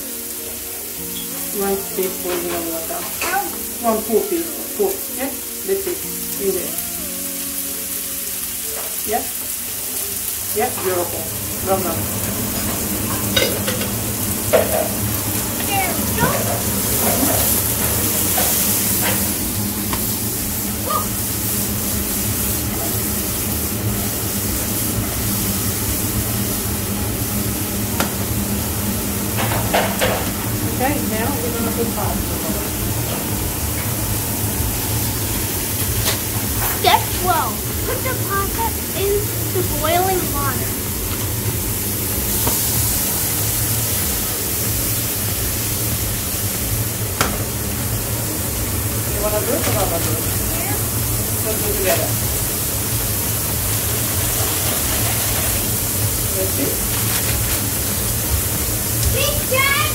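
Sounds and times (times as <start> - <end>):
mushrooms sizzling in a frying pan: 0.0 - 59.9.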